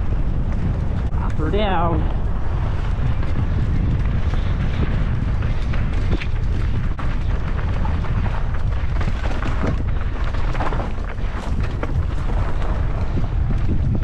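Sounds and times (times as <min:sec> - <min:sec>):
bike rattling over bumps: 0:00.0 - 0:14.0
wind on microphone: 0:00.0 - 0:14.0.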